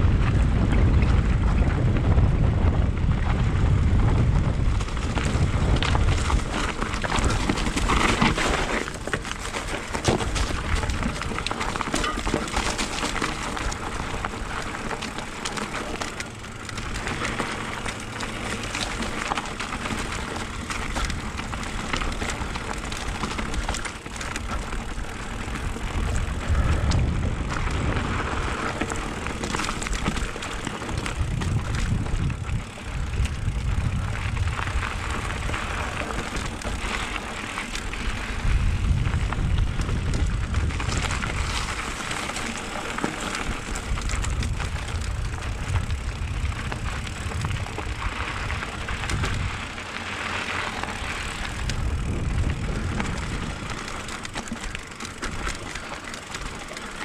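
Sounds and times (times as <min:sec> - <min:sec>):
wind buffeting microphone: 0:00.0 - 0:56.6
bike rattling: 0:00.0 - 0:57.0
tyres crunching over dirt: 0:00.0 - 0:57.0.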